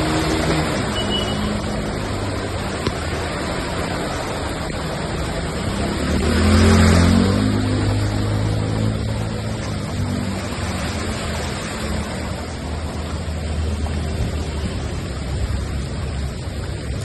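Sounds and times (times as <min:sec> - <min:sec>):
vehicle engine humming: 0:00.0 - 0:17.0
water and road noise: 0:00.0 - 0:17.0.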